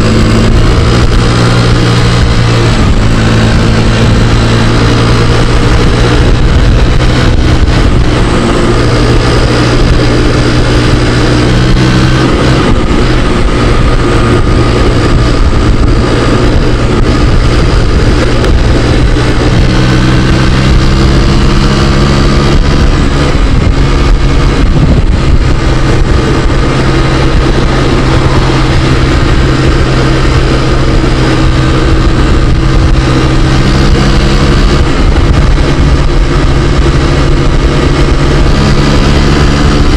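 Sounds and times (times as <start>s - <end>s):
scooter engine running: 0.0s - 39.9s
wind rumbling on microphone: 0.0s - 39.9s.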